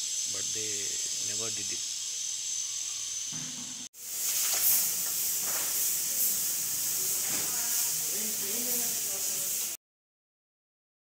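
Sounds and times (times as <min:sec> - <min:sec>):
high-pitched hiss: 0:00.0 - 0:09.8.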